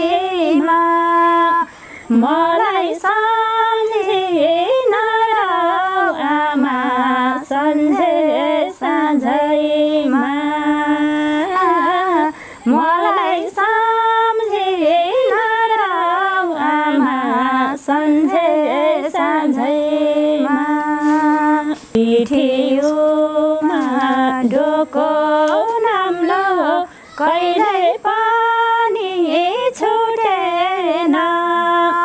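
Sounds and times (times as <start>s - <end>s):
two women singing: 0.0s - 32.0s.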